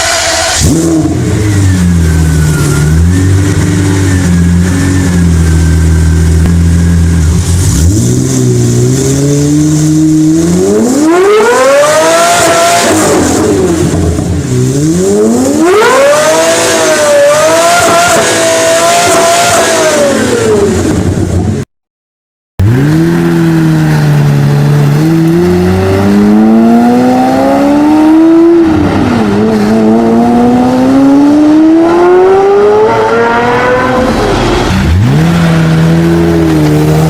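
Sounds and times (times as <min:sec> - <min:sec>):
race car engine revving: 0:00.0 - 0:21.4, 0:22.6 - 0:37.0.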